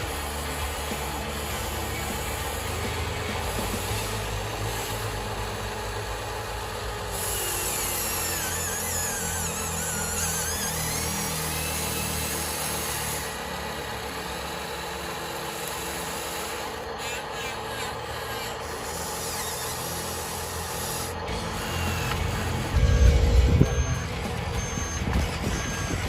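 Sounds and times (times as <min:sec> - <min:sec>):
high wavering whine: 0:00.0 - 0:26.0
small electric motors whirring: 0:00.0 - 0:26.0.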